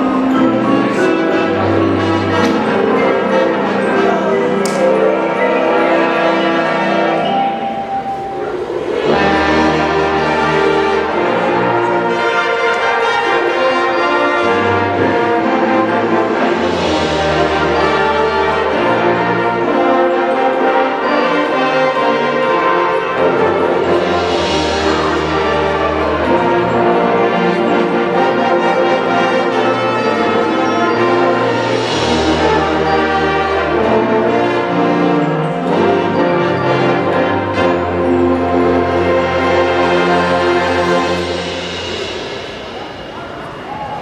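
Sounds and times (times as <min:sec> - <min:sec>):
held low brass notes: 0:00.0 - 0:44.0
marching band brass chords: 0:00.0 - 0:44.0.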